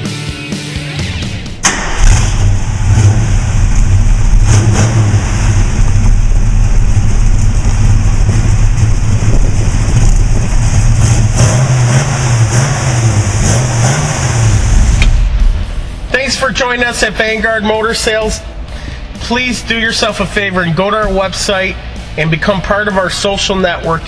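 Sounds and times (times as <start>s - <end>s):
car engine idling loudly: 1.5s - 24.0s.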